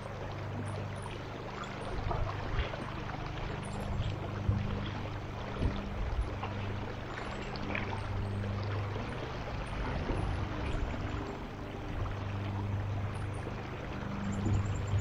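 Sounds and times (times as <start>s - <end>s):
stream water running: 0.0s - 15.0s.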